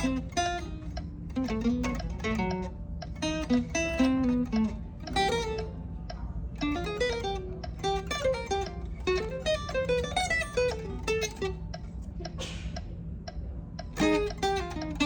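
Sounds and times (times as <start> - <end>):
guitar playing plucked notes: 0.0 - 15.0.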